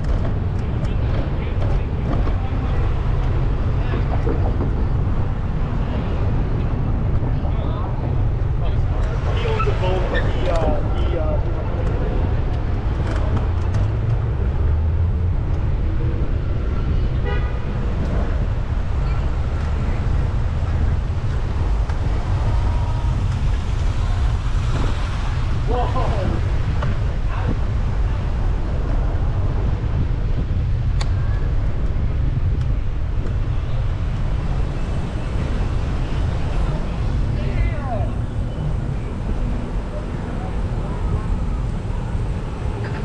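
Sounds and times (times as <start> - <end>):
street traffic: 0.0 - 43.0
wind buffeting microphone: 0.0 - 43.0.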